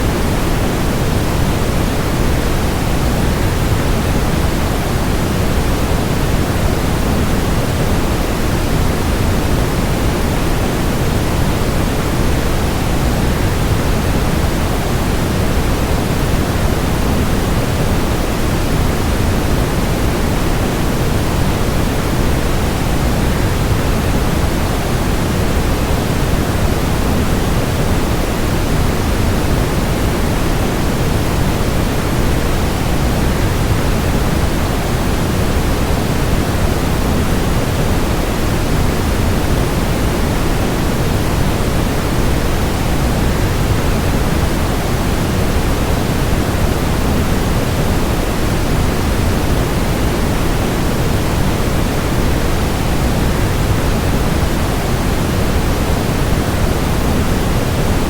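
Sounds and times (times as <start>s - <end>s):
white noise: 0.0s - 58.0s.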